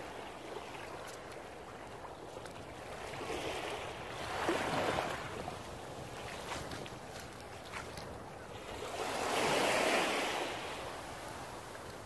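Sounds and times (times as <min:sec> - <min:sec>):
sea waves breaking on beach: 0:00.0 - 0:12.0.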